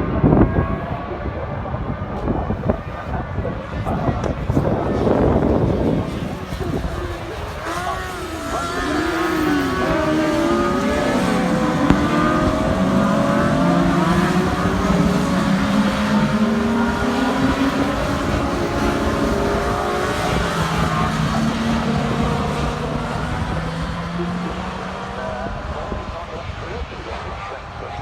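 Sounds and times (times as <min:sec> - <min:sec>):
racing engines revving: 0:00.0 - 0:28.0
wind noise on microphone: 0:00.0 - 0:28.0.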